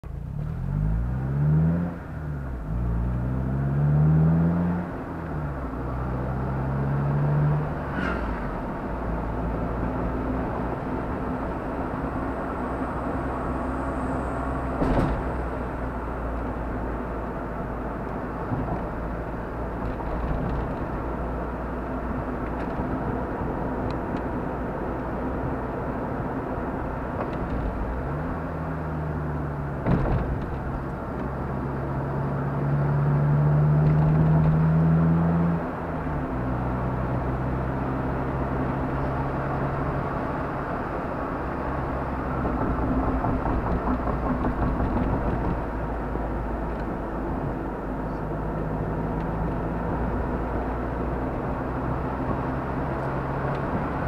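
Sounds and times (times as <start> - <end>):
car engine accelerating: 0.0 - 54.0
tyre and road hum: 0.0 - 54.0.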